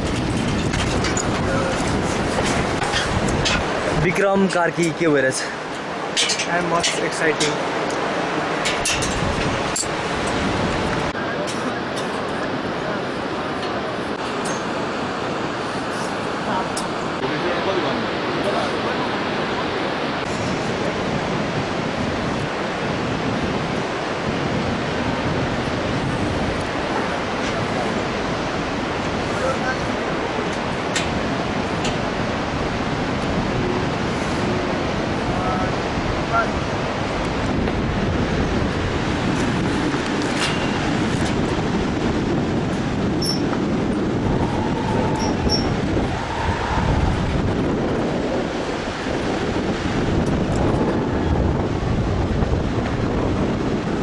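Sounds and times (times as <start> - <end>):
wind on microphone: 0.0 - 4.5, 5.4 - 17.3, 18.1 - 54.0
whitewater river rushing: 0.0 - 54.0.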